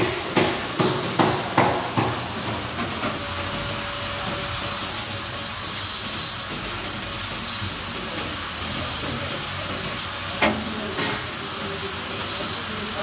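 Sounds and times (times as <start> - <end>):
welding arc hissing and crackling: 0.0 - 13.0.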